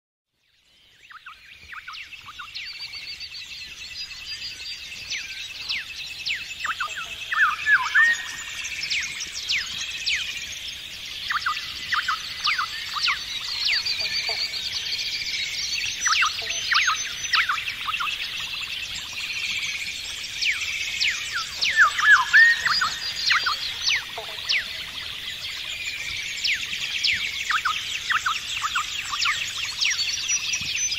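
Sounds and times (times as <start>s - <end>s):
birdsong chorus: 0.3s - 30.9s.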